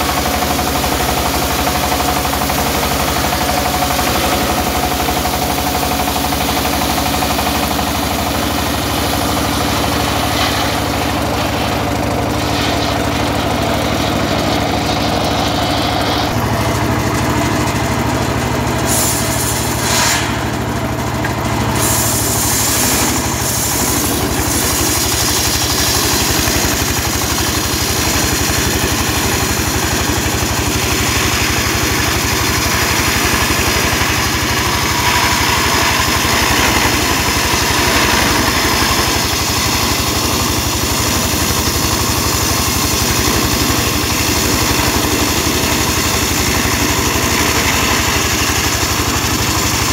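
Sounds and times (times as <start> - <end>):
circular saw ripping timber: 0.0 - 49.9
diesel engine running: 0.0 - 49.9.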